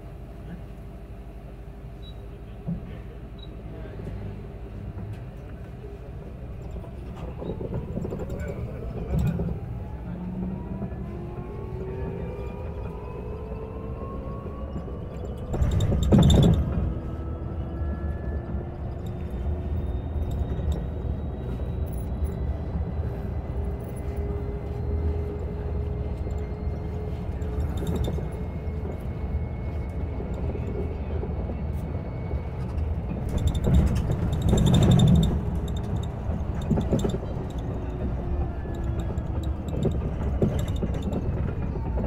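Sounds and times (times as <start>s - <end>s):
bus ride rumble: 0.0s - 42.0s.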